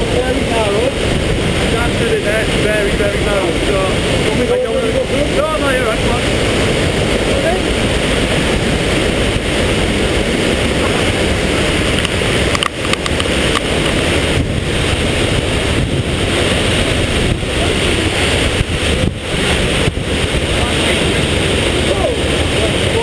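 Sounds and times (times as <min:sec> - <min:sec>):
waterfall rushing: 0:00.0 - 0:23.0
wind buffeting microphone: 0:00.0 - 0:23.0.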